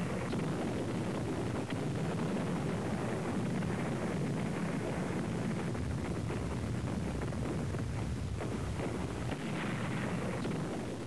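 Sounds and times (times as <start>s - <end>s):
distant explosions and artillery fire: 0.0s - 11.0s
faint crackles: 0.0s - 11.0s.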